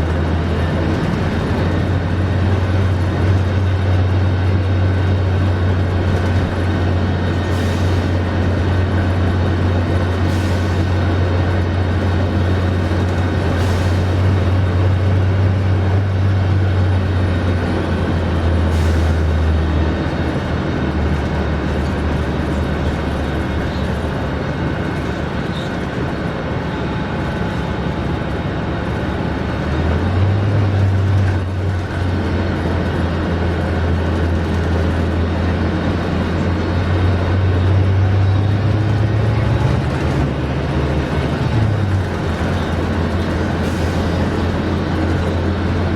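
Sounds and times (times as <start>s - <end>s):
bus diesel engine droning: 0.0s - 45.9s.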